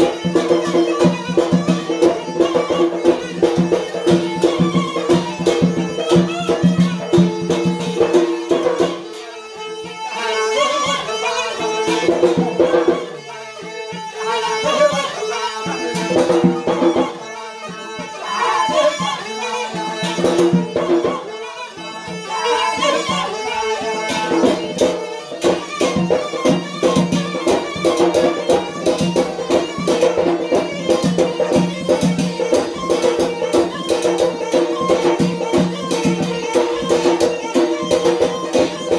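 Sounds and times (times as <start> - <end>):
beats on metal tray: 0.0 - 10.0, 10.9 - 21.4, 22.0 - 38.9
reed pipe melody: 0.0 - 38.9.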